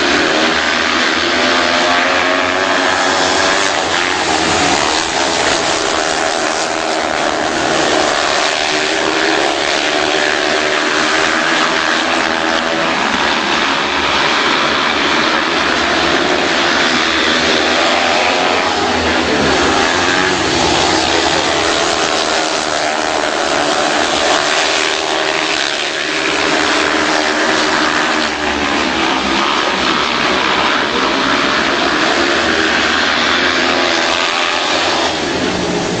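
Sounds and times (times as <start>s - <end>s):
motorcycle engines racing: 0.0s - 36.0s.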